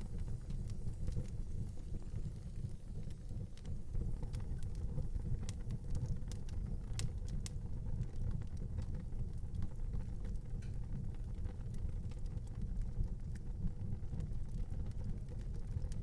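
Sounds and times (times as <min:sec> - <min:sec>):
fire crackling and popping: 0:00.0 - 0:16.0
wood fire burning: 0:00.0 - 0:16.0.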